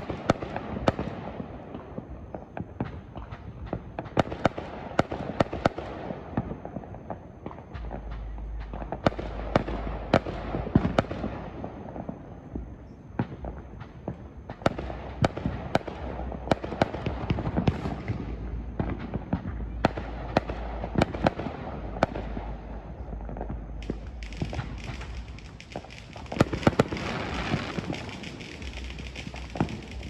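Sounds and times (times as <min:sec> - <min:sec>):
firework bangs and pops: 0:00.0 - 0:30.0
firework crackle: 0:00.0 - 0:30.0.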